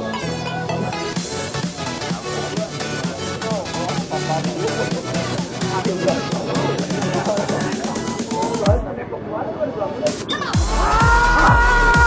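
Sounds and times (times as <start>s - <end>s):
electronic dance music: 0.0s - 8.9s, 9.9s - 12.0s.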